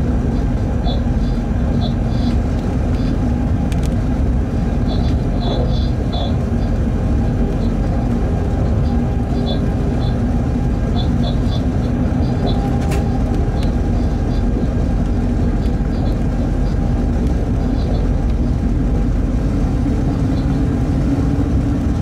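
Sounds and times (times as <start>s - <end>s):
train cab rumble with low hum: 0.0s - 22.0s.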